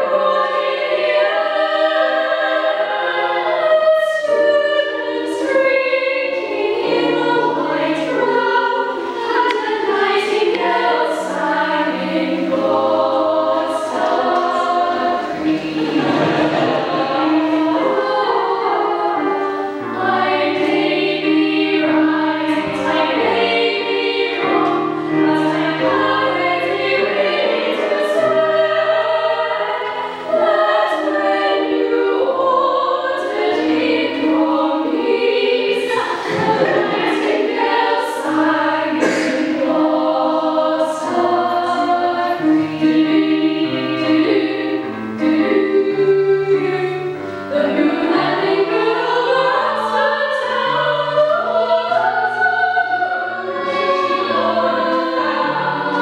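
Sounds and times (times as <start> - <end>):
female choir singing in harmony: 0.0 - 56.0.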